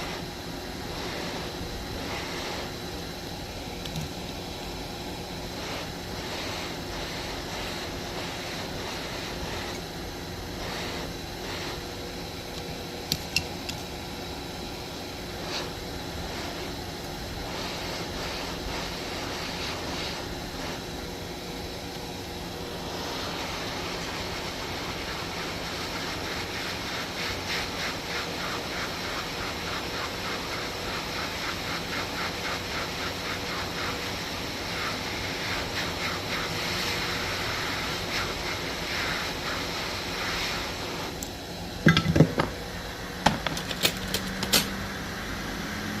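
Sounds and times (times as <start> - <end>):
hot air station blowing: 0.0 - 46.0.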